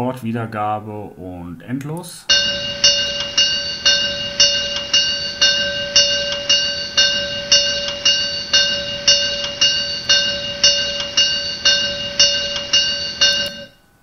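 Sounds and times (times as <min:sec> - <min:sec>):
looped gong ringing: 0:02.3 - 0:13.8.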